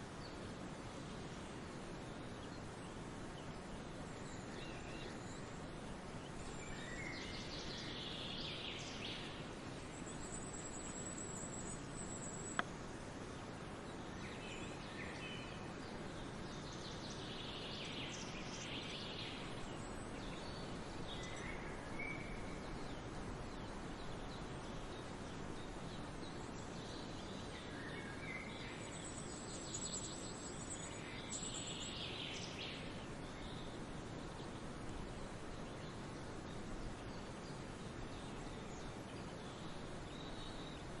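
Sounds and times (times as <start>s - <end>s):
songbirds singing: 0.0s - 41.0s
steady outdoor hiss: 0.0s - 41.0s.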